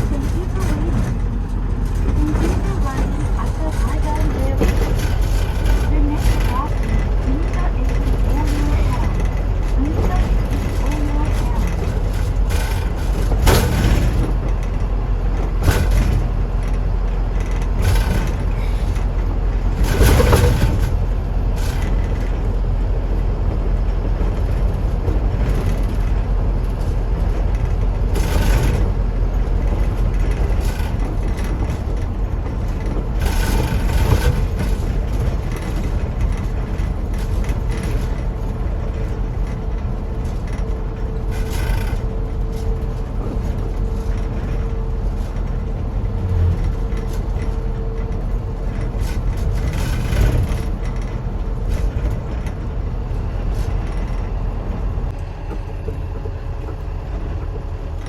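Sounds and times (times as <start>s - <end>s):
engine and road rumble: 0.0s - 58.0s
short clatters and bumps: 0.0s - 58.0s.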